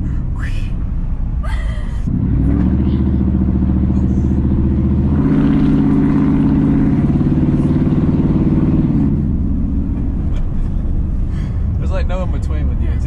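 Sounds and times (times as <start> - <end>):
truck exhaust revving: 2.0 - 12.9.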